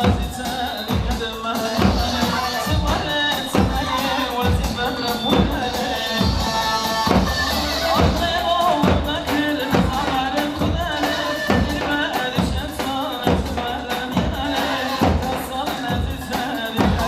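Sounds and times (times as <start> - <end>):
keyboard melody: 0.0 - 16.7
heavy drum beat: 0.0 - 17.0.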